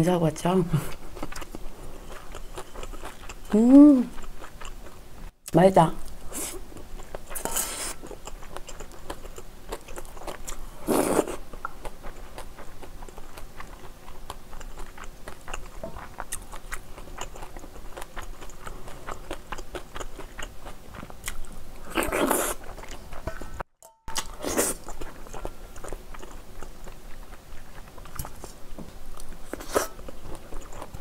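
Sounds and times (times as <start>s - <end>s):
person chewing with wet clicks: 0.9s - 23.4s, 24.1s - 31.0s.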